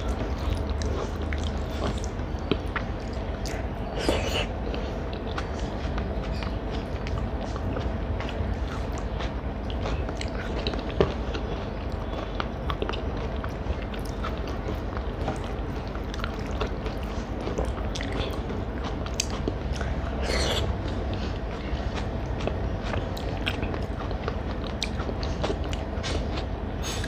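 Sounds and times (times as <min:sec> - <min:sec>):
person chewing food: 0:00.0 - 0:27.0
steady low hum: 0:00.0 - 0:27.0.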